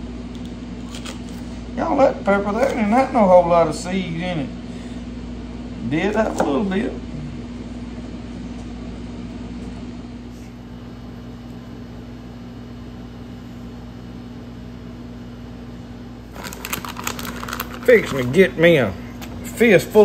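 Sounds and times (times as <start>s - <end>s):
steady motor hum with hiss: 0.0s - 20.0s.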